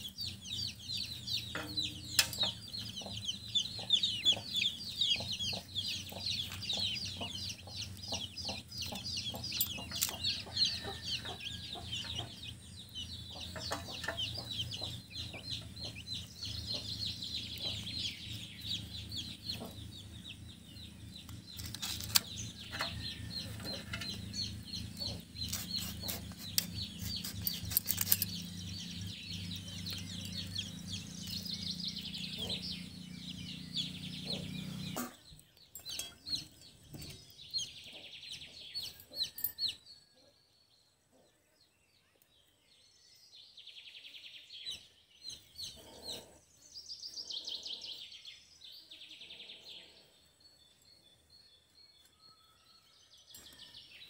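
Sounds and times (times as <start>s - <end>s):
birds chirping rapidly: 0.0s - 54.0s.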